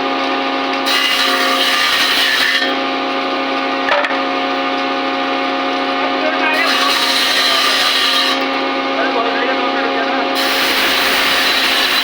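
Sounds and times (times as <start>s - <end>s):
power tool cutting wood: 0.0s - 12.0s.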